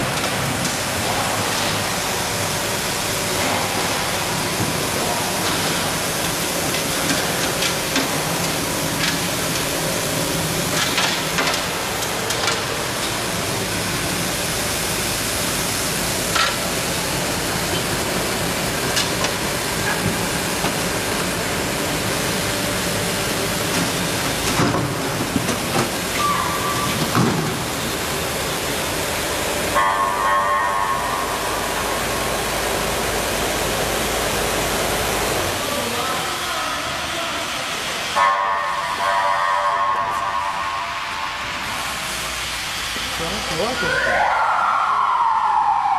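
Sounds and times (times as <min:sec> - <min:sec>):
floor sweeper rushing noise: 0:00.0 - 0:45.9
steady hum: 0:00.0 - 0:45.9.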